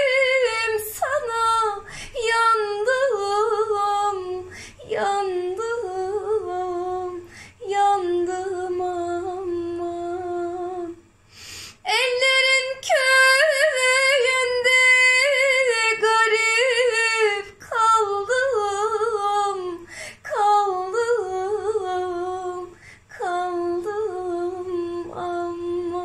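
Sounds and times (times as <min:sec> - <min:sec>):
woman singing unaccompanied: 0:00.0 - 0:11.1, 0:11.8 - 0:26.0.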